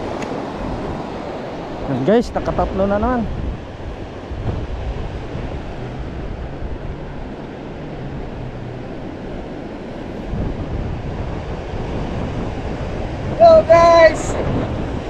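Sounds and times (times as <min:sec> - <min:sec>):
ocean surf washing on beach: 0:00.0 - 0:15.0
wind rumbling on microphone: 0:00.0 - 0:15.0.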